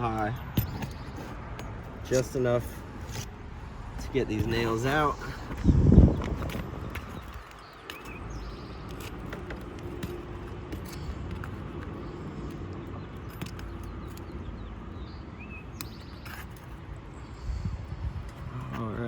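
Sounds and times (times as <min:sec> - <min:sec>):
bird chirp: 0:00.0 - 0:03.2, 0:04.0 - 0:19.0
vehicle engine hum: 0:00.0 - 0:19.0.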